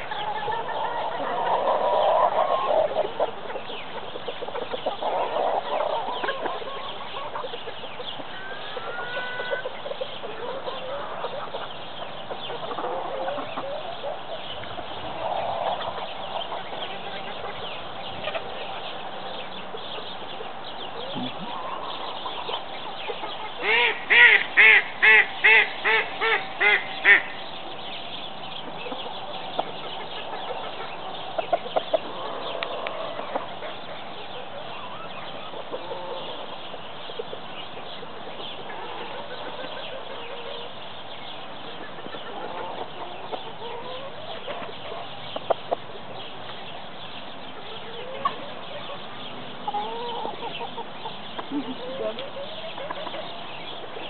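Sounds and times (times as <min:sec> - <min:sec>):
loud bird calls: 0:00.0 - 0:54.0
poultry clucking: 0:00.0 - 0:54.0.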